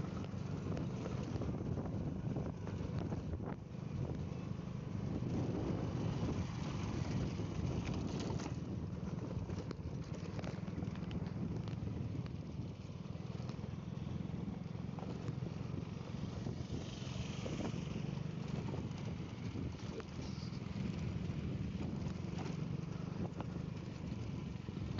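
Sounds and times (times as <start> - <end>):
road and wind noise: 0.0 - 24.9
small motorcycle engine running: 0.0 - 24.9.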